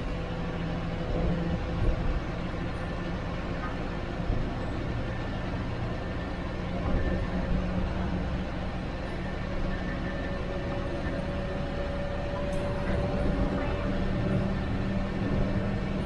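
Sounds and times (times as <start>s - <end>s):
bus diesel engine running: 0.0s - 16.0s
road noise: 0.0s - 16.0s.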